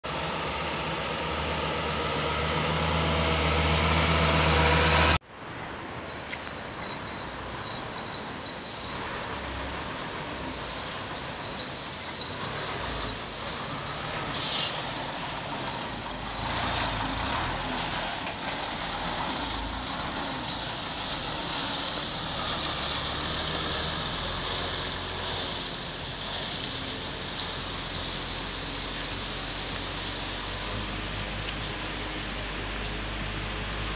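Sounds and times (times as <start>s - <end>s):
truck engine rumble: 0.0s - 33.9s.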